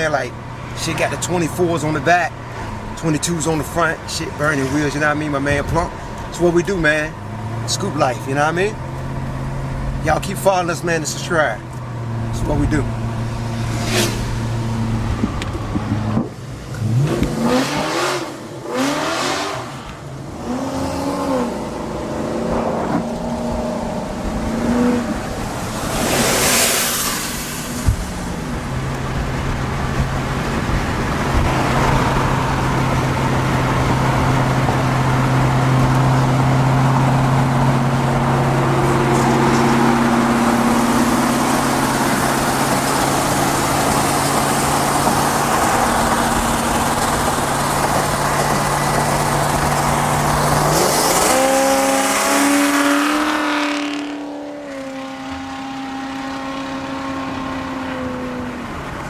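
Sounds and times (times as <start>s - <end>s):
car engine droning: 0.0s - 59.0s
road and wind noise: 0.0s - 59.0s.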